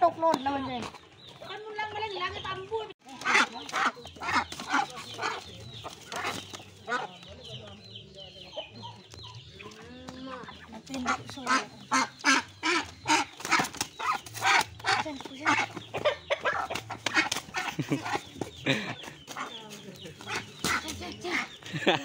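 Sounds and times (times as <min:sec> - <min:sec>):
poultry squawking: 0:01.4 - 0:21.7.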